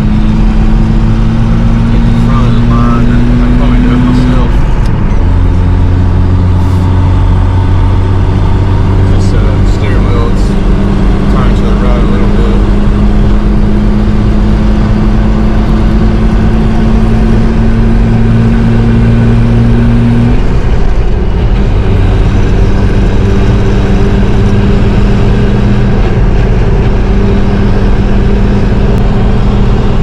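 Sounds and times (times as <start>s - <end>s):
car engine and road drone: 0.0s - 30.0s.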